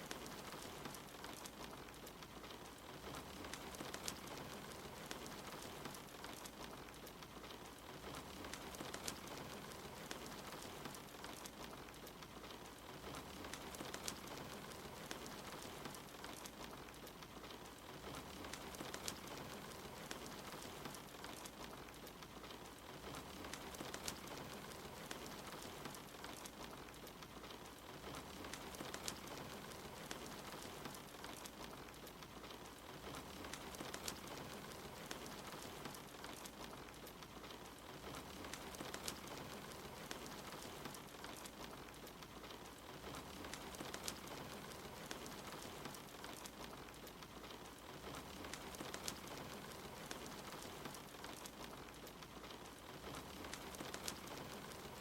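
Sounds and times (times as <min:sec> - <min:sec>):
steady rain hissing: 0:00.0 - 0:55.0
wood fire crackling: 0:00.0 - 0:55.0.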